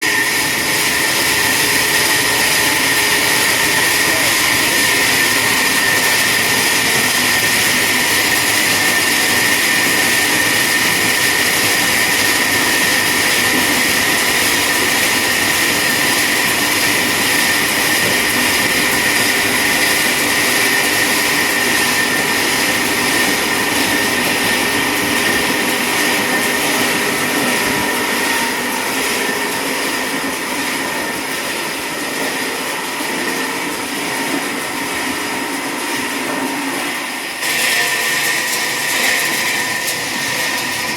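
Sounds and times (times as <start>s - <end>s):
chainsaw cutting trunk: 0.0s - 34.6s.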